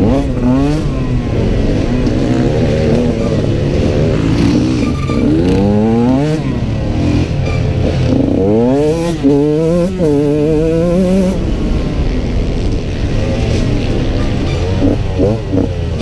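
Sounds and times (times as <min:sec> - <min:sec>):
two-stroke engine accelerating: 0:00.0 - 0:16.0.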